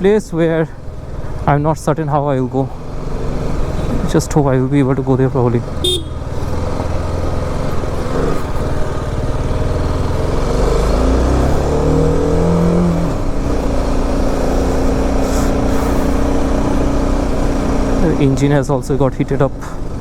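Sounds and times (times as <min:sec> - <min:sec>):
motorcycle engine climbing: 0:00.0 - 0:20.0.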